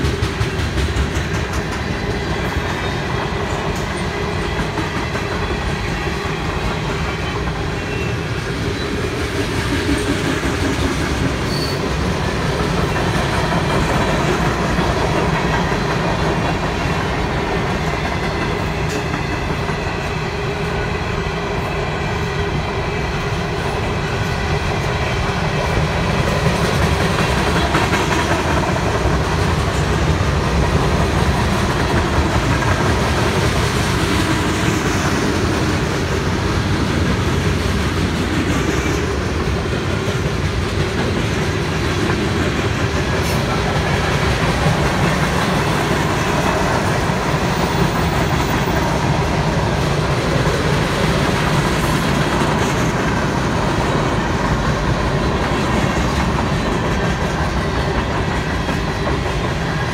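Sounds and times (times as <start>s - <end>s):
clickety-clack of wheels: 0.0s - 20.5s, 22.6s - 59.9s
train wheels rumbling on rail: 0.0s - 59.9s.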